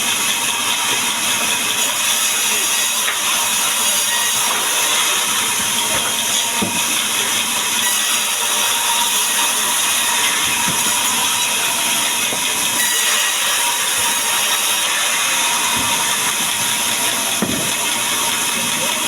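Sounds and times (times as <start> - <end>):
power saw cutting board: 0.0 - 19.0.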